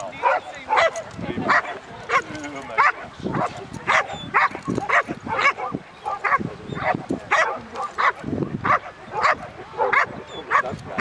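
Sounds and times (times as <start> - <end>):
dog barking excitedly: 0.2 - 11.0.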